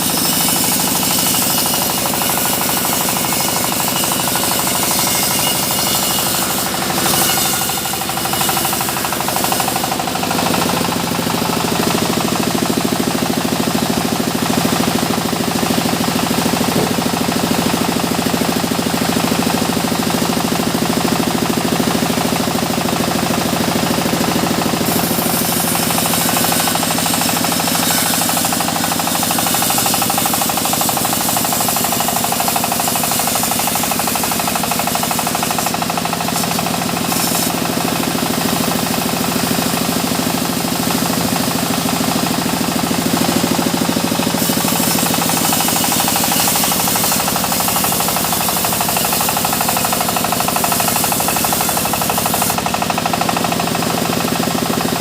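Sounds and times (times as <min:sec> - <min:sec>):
engine knocking rapidly: 0:00.0 - 0:55.0
saw blade cutting wood: 0:00.0 - 0:55.0
sawmill machinery running: 0:00.0 - 0:55.0.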